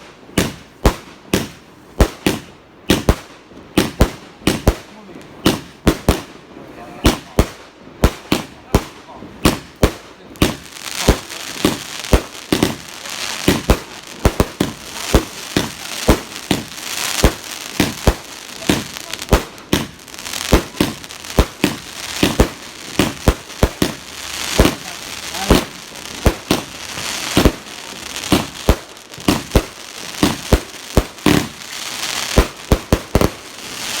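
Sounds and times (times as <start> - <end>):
fireworks bangs and cracks: 0.0 - 34.0
fireworks crackling hiss: 0.0 - 34.0.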